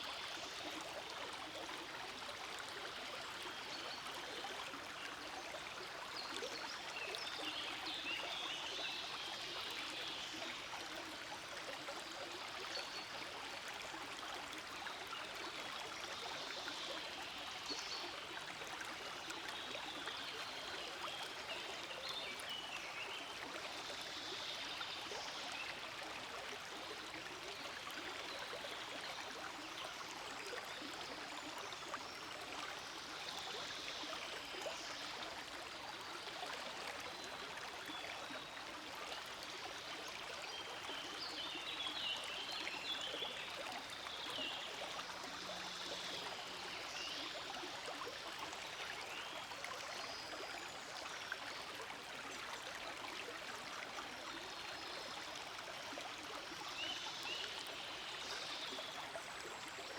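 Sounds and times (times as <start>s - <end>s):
forest stream flowing: 0.0s - 59.9s.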